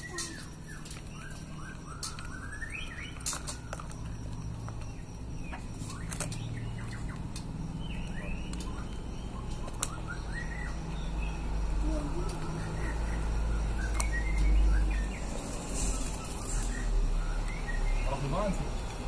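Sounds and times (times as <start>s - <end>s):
birds calling faintly: 0.0s - 19.0s.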